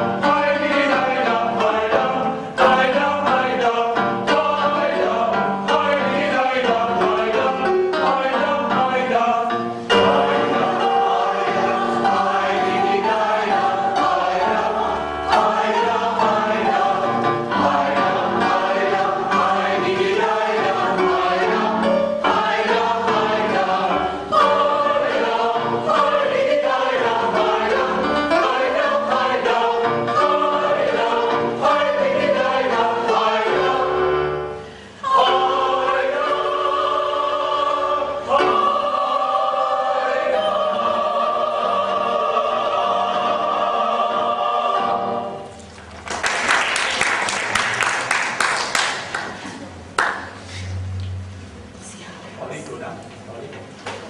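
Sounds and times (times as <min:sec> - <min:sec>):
choir singing: 0:00.0 - 0:45.6.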